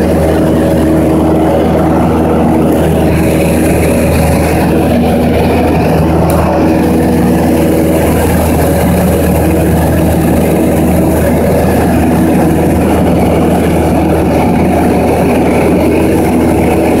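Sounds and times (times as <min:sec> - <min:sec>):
propeller aircraft engine droning: 0:00.0 - 0:17.0
rush of air: 0:00.0 - 0:17.0.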